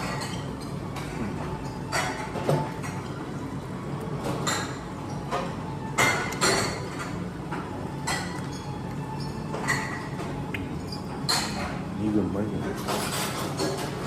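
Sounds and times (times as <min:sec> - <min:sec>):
tableware clinking: 0:00.0 - 0:03.2, 0:04.2 - 0:11.9, 0:12.6 - 0:14.0.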